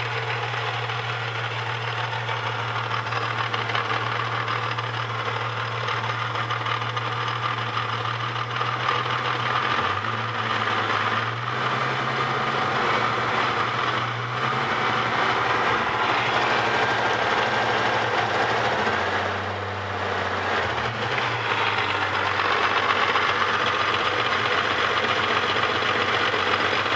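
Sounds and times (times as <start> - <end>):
car engine running: 0.0 - 26.9
engine rattle: 0.0 - 26.9.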